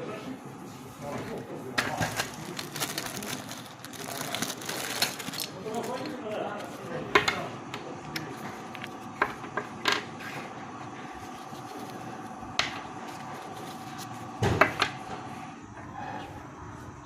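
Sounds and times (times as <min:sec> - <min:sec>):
steady high hum: 0:00.0 - 0:17.0.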